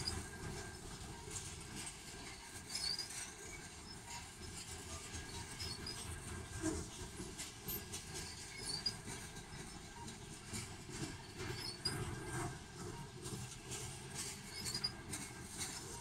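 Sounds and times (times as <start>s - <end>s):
train wheels clicking and clacking: 0.0s - 16.0s
train wheels rumbling on rail: 0.0s - 16.0s.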